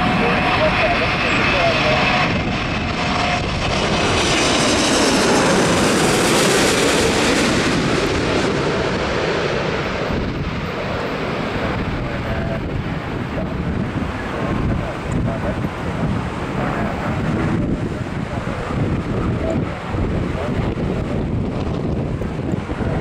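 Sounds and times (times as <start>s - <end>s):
jet airliner roar overhead: 0.0s - 23.0s.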